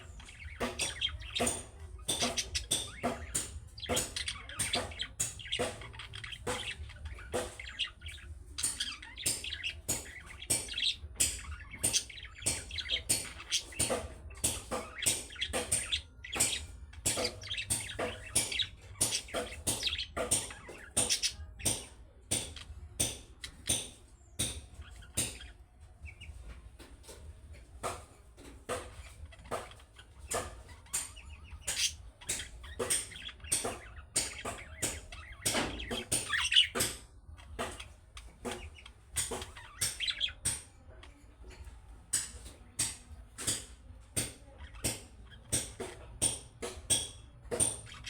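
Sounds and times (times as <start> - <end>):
budgerigars chattering: 0.0 - 26.4, 28.7 - 48.0.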